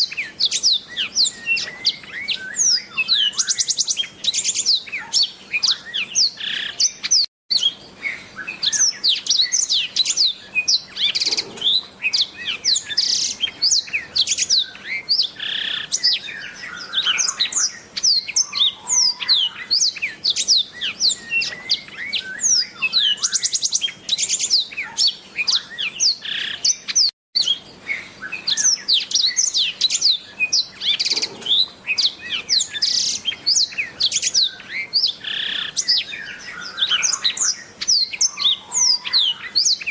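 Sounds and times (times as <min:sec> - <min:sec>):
bird singing fast warble: 0:00.0 - 0:39.9.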